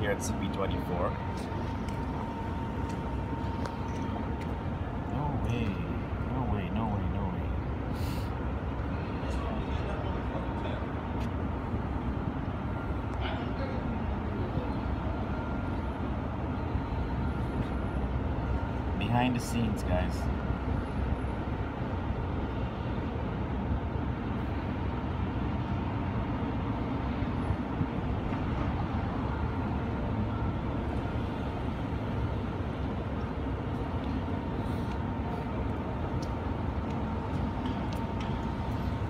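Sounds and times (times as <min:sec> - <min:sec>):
city street traffic rumble: 0:00.0 - 0:39.0.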